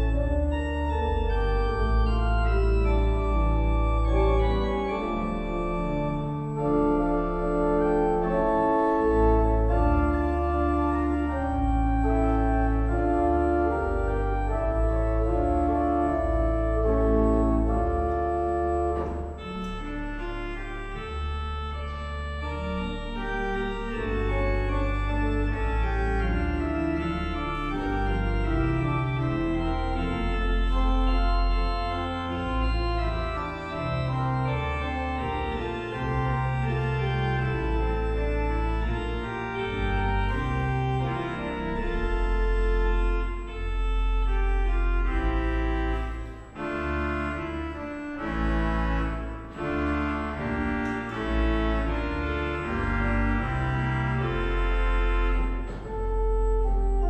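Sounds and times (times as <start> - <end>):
organ chords: 0.0 - 57.0.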